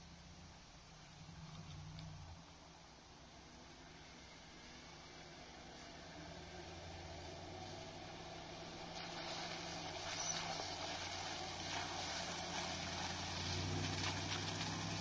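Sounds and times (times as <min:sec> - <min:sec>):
engine exhaust at low revs: 0:00.0 - 0:15.0.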